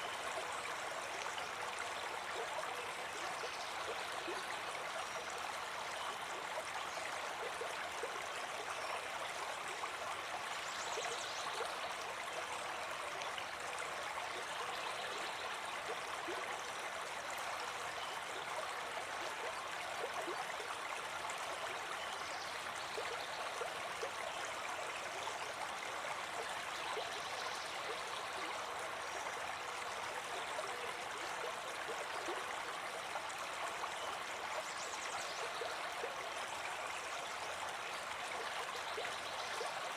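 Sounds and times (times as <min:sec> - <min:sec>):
river water over rocks: 0:00.0 - 0:39.9.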